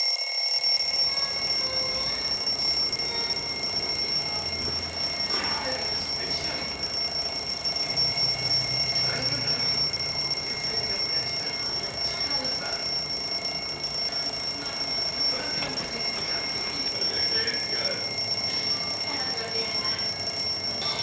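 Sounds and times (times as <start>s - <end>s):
alarm clock ringing: 0.0s - 21.0s.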